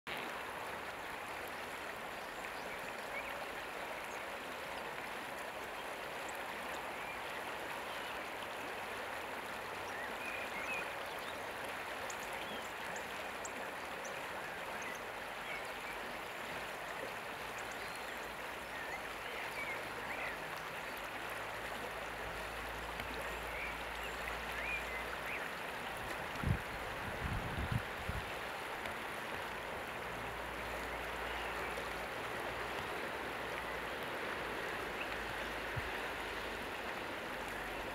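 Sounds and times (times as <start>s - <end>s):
river flowing: 0.1s - 37.9s.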